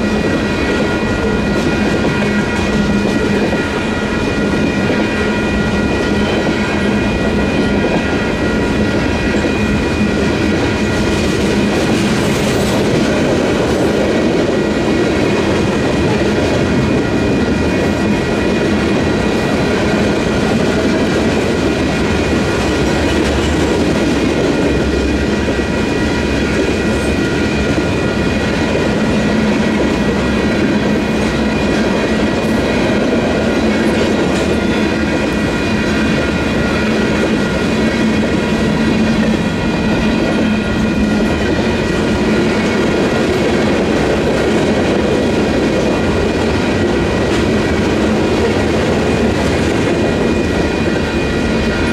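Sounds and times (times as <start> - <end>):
crossing bells ringing: 0.0 - 51.9
freight train clattering over rails: 0.0 - 51.9.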